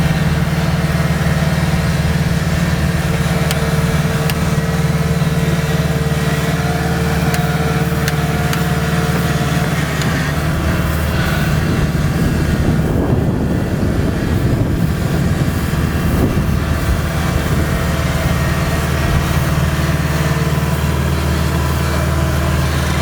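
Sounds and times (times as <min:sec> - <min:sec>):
combine harvester diesel engine: 0:00.0 - 0:23.0.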